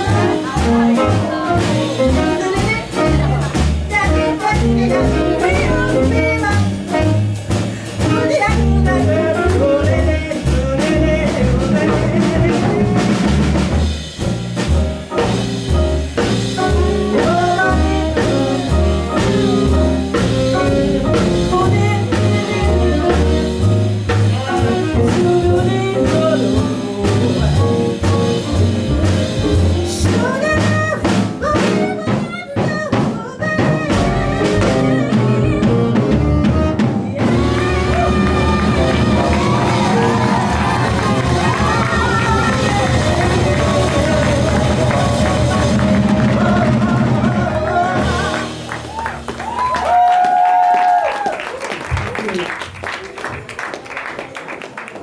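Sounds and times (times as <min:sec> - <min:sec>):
bass line: 0:00.0 - 0:32.3, 0:32.9 - 0:50.5
drum kit: 0:00.0 - 0:52.8
jazz blues band playing: 0:00.0 - 0:54.4.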